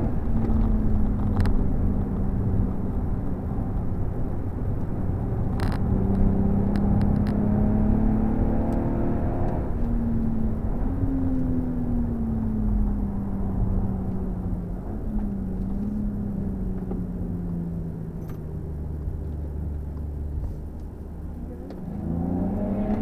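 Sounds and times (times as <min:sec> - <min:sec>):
car engine accelerating: 0:00.0 - 0:23.0
road and tyre noise: 0:00.0 - 0:23.0.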